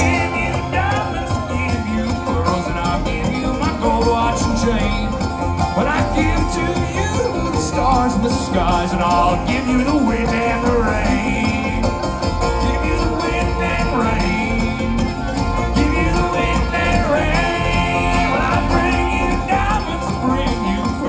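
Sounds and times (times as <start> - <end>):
banjo picking: 0.0 - 21.0
bluegrass band playing: 0.0 - 21.0
upright bass line: 0.0 - 21.0.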